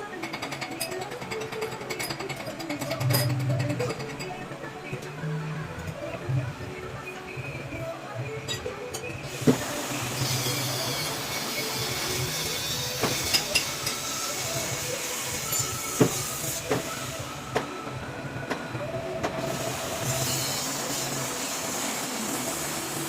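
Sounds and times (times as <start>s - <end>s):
machine hum and hiss: 0.0s - 23.0s.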